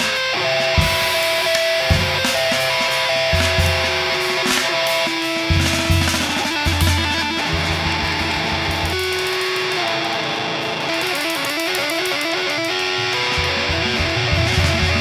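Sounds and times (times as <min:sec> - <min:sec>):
busy drumming: 0:00.0 - 0:15.0
cymbals washing: 0:00.0 - 0:15.0
electric guitar runs: 0:00.0 - 0:15.0.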